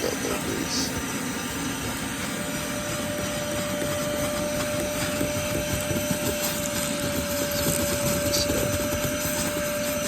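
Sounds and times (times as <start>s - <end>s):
nozzle scratching on carpet: 0.0s - 10.0s
vacuum cleaner whining: 0.0s - 10.0s.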